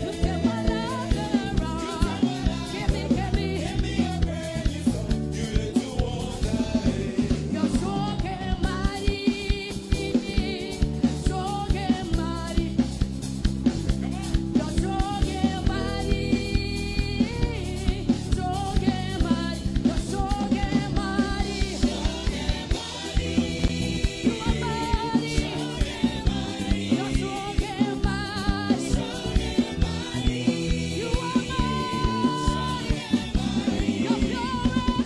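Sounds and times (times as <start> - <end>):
woman singing into microphone: 0.0 - 5.0, 7.4 - 12.9, 14.0 - 35.0
backing singers: 0.0 - 12.4, 14.0 - 35.0
drum kit beat: 0.0 - 35.0
gospel band playing: 0.0 - 35.0.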